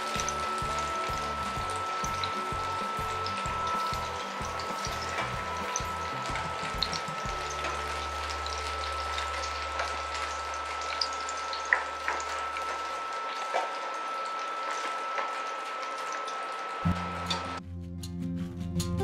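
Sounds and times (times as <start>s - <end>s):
chicken frying in oil: 0.0s - 17.6s.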